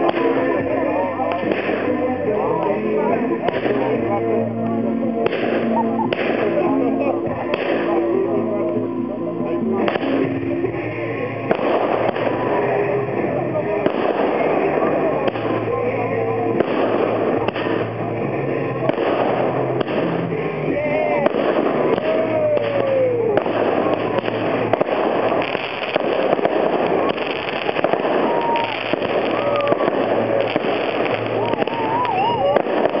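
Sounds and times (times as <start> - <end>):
fireworks bursting and crackling: 0.0 - 33.0
music: 0.0 - 33.0
spectators' voices: 0.0 - 33.0.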